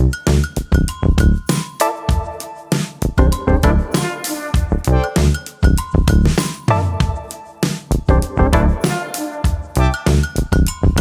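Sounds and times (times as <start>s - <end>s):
music with punchy drum beat: 0.2s - 11.0s.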